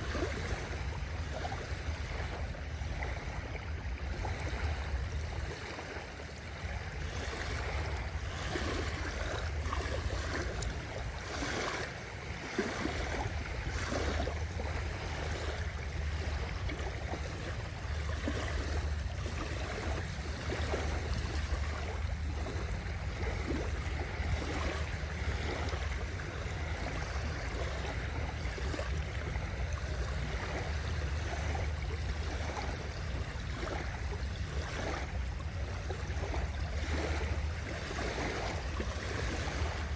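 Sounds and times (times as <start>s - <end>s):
small waves lapping and splashing: 0.0s - 39.9s
steady low rumble: 0.0s - 39.9s.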